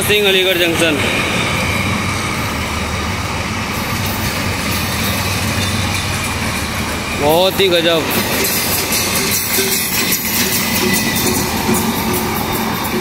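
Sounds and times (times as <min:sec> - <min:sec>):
steel wheels rumbling on track: 0:00.0 - 0:13.0.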